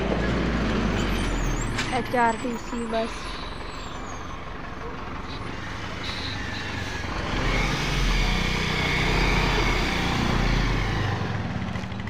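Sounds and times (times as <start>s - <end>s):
bus diesel engine driving past: 0.0s - 12.0s.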